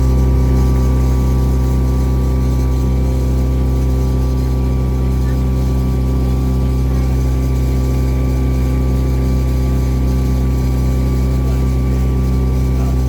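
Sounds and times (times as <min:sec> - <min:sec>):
boat engine hum: 0:00.0 - 0:13.0.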